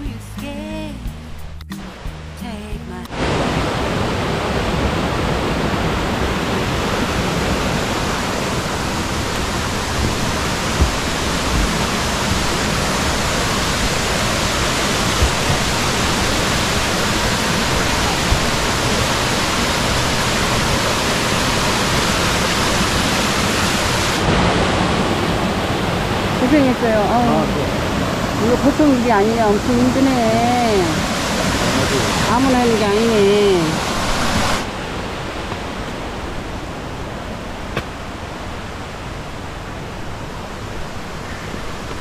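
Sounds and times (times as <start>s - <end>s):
stream rushing over rocks: 3.1s - 42.0s.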